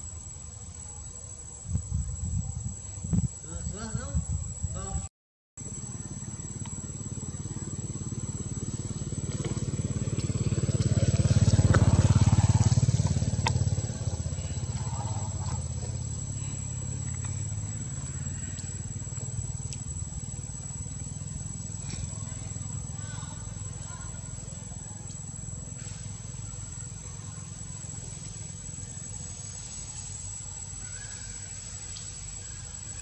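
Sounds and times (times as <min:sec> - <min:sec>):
low engine rumble: 0:00.0 - 0:33.0.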